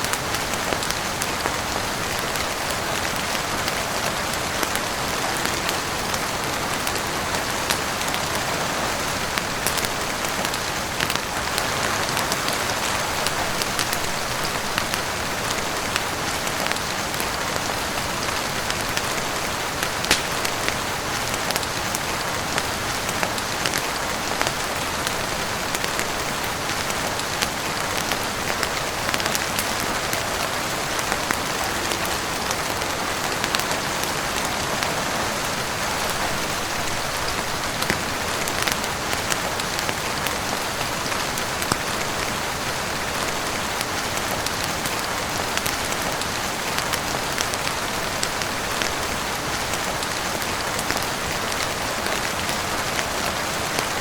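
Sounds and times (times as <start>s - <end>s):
wood fire crackles: 0.0s - 34.6s, 35.4s - 54.0s
heavy rain on roof and windows: 0.0s - 54.0s.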